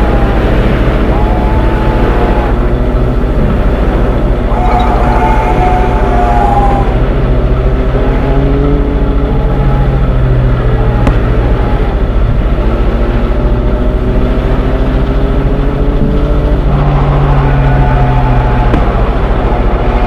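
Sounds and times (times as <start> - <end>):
held drifting tones: 0.0 - 20.0
train deep rumble: 0.0 - 20.0.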